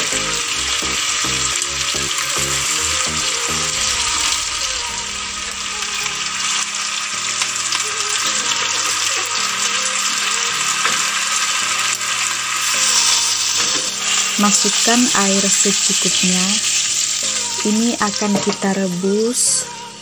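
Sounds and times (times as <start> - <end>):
chicken sizzling in a wok: 0.0 - 20.0
soft background music: 0.0 - 20.0.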